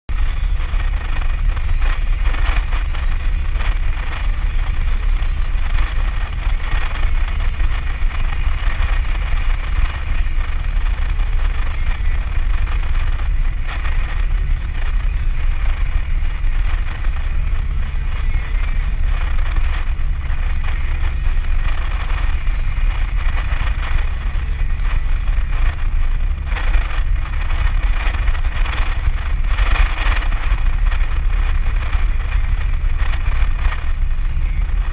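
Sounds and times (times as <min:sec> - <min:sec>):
engine and tyre rumble: 0:00.0 - 0:34.9
road and wind hiss: 0:00.1 - 0:34.9.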